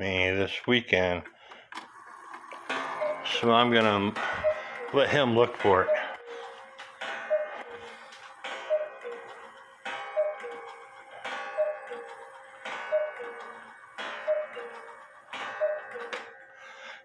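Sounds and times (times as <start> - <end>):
two-note cuckoo calls: 2.8 - 16.9.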